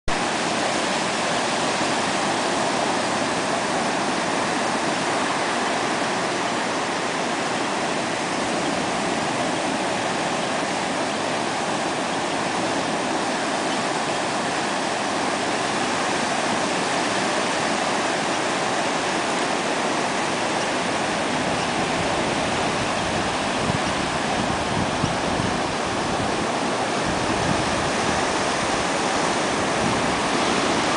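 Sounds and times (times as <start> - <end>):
ocean waves washing on beach: 0.1 - 30.9.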